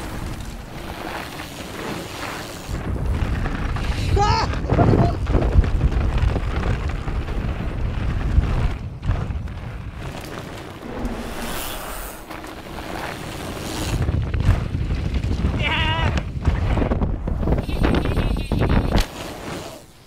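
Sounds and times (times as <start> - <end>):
bike tyres rattling on dirt: 0.0 - 20.0
wind buffeting microphone: 2.7 - 19.1.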